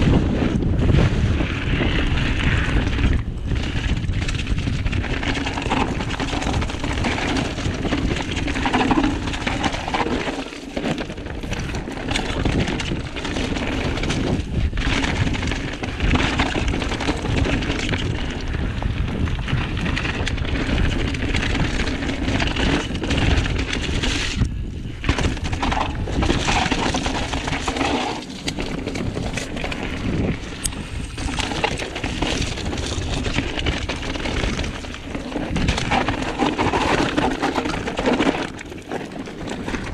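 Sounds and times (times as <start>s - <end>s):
wind buffeting microphone: 0.0s - 10.3s, 10.9s - 39.9s
bike rattling over bumps: 0.0s - 39.9s
tyres crunching over ground: 3.6s - 39.9s.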